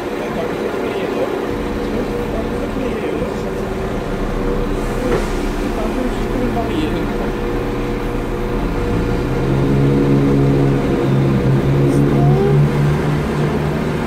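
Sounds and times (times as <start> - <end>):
diesel train engine accelerating: 0.0 - 14.0.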